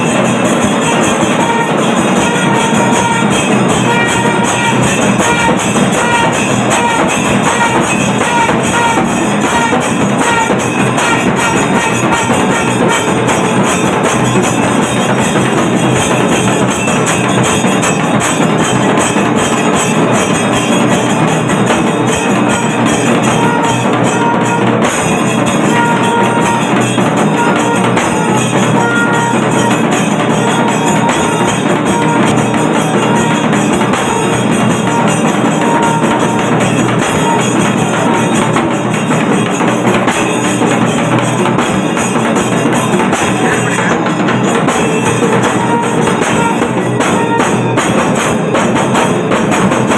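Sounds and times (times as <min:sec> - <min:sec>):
drums playing fast rhythm: 0:00.0 - 0:49.9
jangling metal percussion: 0:00.0 - 0:49.9.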